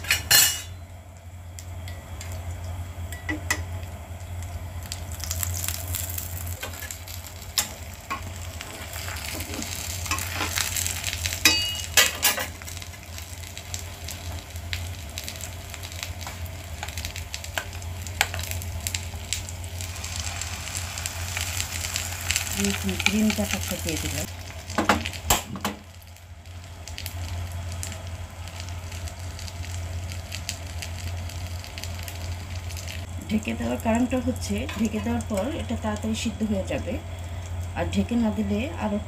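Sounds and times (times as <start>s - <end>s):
batter sizzling in pan: 0.0s - 39.0s.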